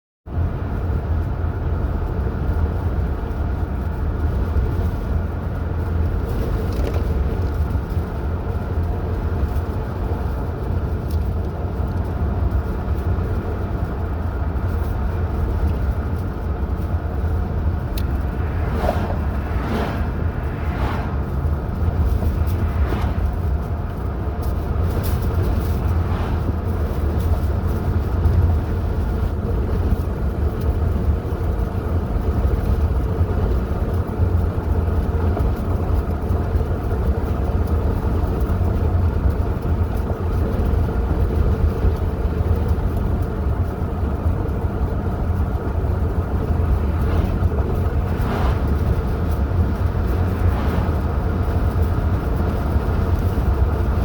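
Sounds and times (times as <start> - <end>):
car road and engine rumble: 0.2 - 54.0.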